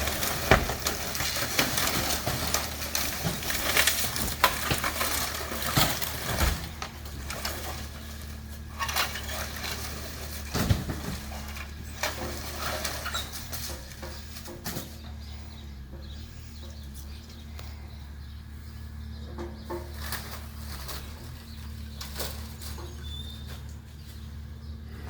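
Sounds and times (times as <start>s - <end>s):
wood cracking and crunching: 0.0s - 17.9s, 19.2s - 25.0s
steady low hum: 0.0s - 25.0s.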